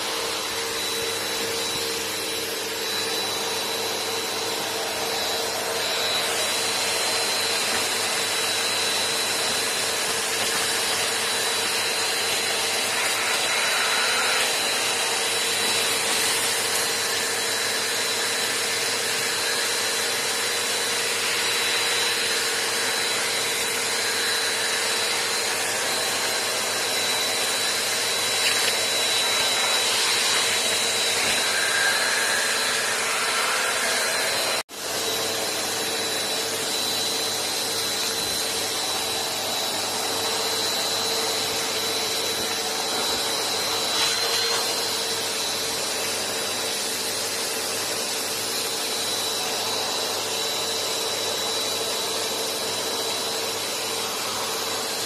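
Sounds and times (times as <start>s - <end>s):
vacuum cleaners running: 0.0s - 55.0s.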